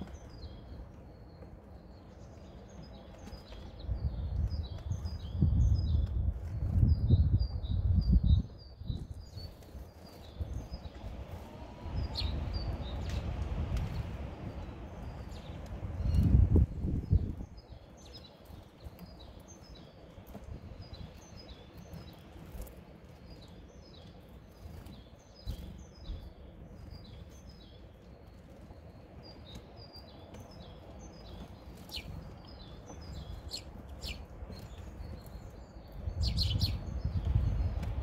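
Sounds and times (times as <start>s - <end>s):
songbird chirping: 0.0s - 38.0s.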